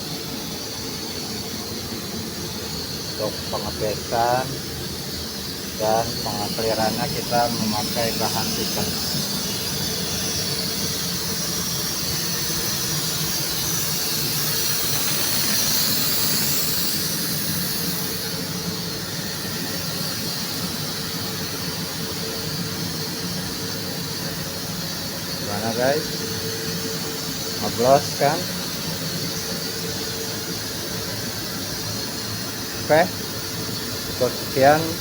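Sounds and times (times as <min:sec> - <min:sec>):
workshop machinery hum and whine: 0:00.0 - 0:35.0.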